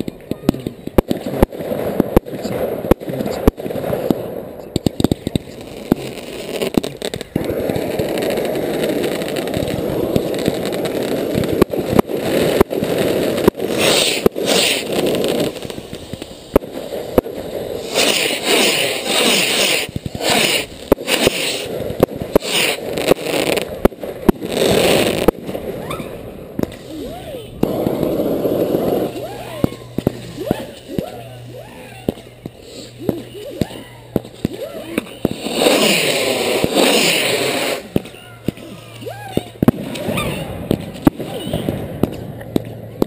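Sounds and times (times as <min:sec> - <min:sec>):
fireworks bangs: 0:00.0 - 0:43.0
rockets firing with rushing hiss: 0:00.0 - 0:43.0.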